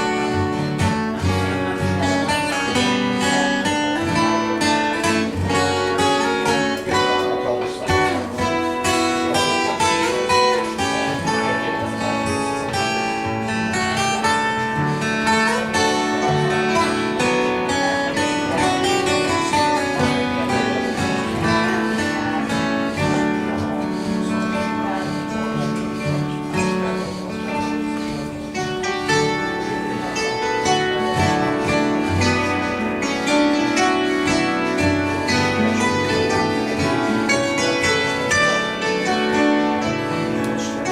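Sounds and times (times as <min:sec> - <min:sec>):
plucked acoustic guitar: 0:00.0 - 0:40.9.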